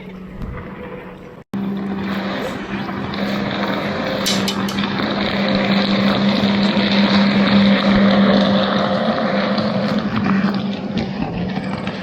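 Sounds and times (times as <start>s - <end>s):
watercraft engine running: 0.8s - 12.0s.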